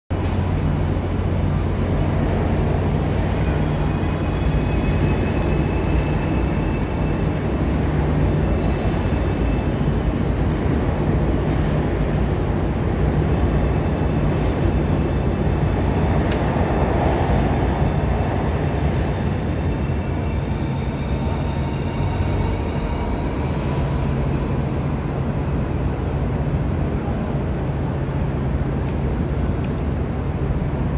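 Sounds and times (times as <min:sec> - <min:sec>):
electric train humming: 0:00.2 - 0:30.9.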